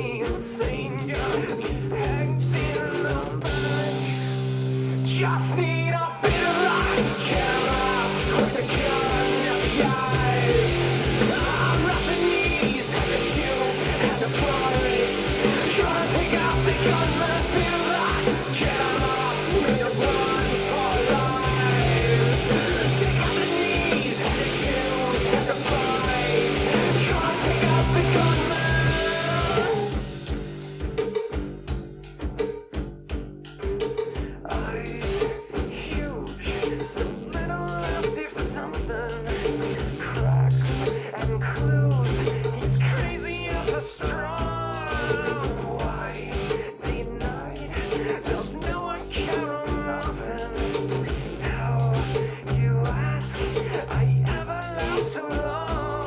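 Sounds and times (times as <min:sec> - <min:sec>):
person singing: 0:00.0 - 0:30.4, 0:33.8 - 0:56.0
drums: 0:00.0 - 0:56.0
electric guitar: 0:00.0 - 0:56.0
rock music through speakers: 0:00.0 - 0:56.0.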